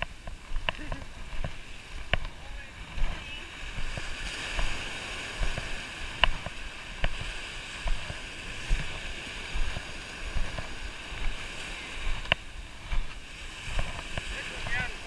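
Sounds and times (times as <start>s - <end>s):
surf washing up beach: 0.0s - 15.0s.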